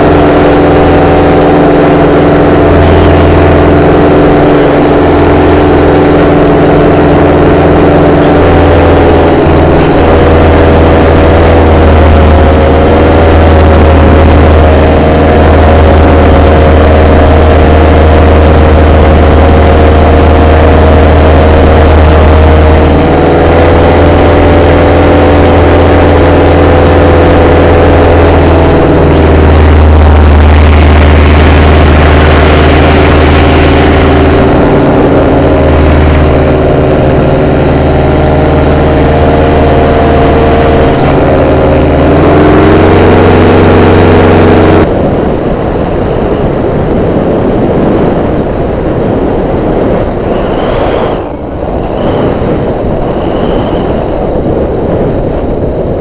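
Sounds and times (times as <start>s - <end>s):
paramotor engine and propeller: 0.0s - 56.0s
wind on microphone: 0.0s - 56.0s.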